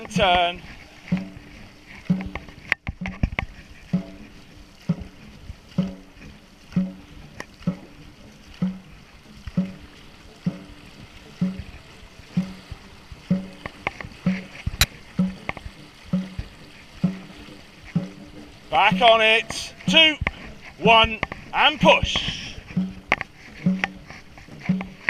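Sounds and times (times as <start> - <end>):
drum beating steadily: 0.0 - 25.0
paddles splashing: 0.0 - 25.0.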